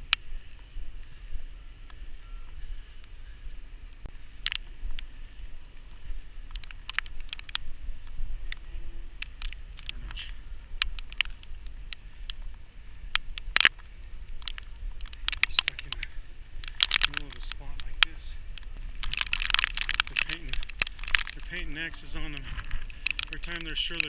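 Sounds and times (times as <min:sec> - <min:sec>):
sharp crackles and clicks: 0:00.0 - 0:03.2, 0:03.8 - 0:24.0
wind buffeting microphone: 0:00.0 - 0:24.0.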